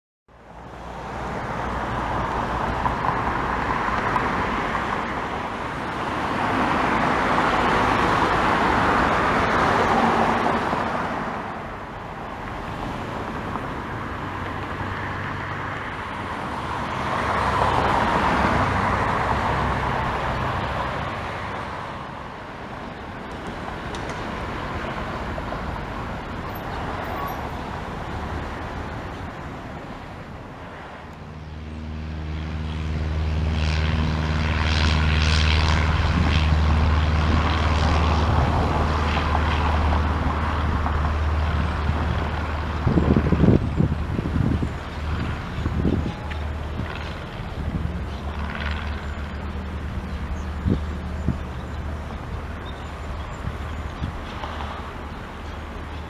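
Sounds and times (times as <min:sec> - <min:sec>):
passing road traffic: 0:00.3 - 0:56.0
piston aircraft engines droning: 0:00.3 - 0:56.0.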